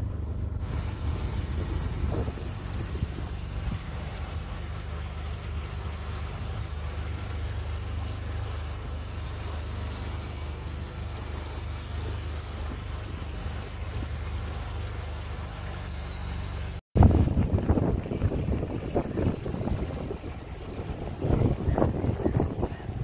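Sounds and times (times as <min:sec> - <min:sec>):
boat engine droning: 0:00.0 - 0:23.0
rush of water: 0:00.0 - 0:23.0.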